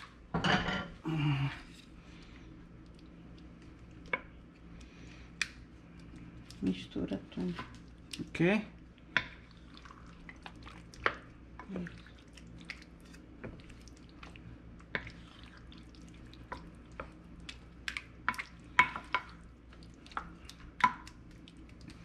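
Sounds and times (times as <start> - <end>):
spoon stirring thick sauce: 3.0 - 22.0.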